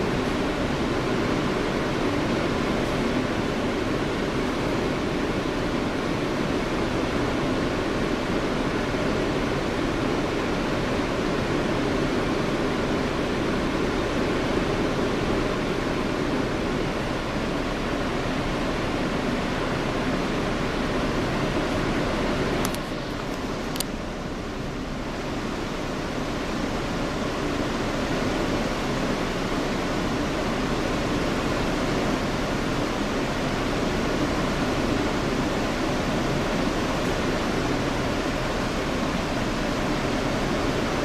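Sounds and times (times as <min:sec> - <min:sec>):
subway car wheels rumbling on rail: 0:00.0 - 0:41.0.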